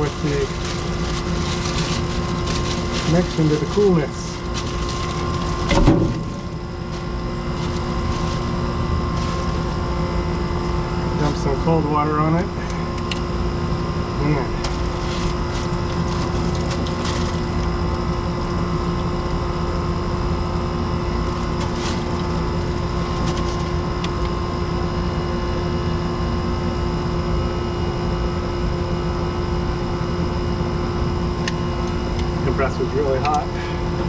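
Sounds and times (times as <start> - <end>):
machinery droning: 0.0 - 34.0.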